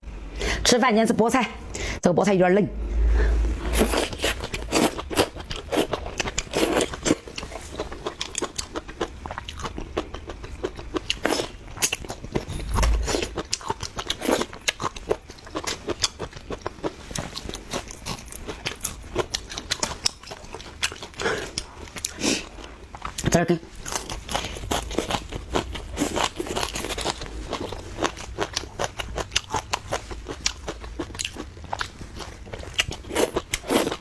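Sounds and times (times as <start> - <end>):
person chewing crunchy greens: 3.7 - 34.0.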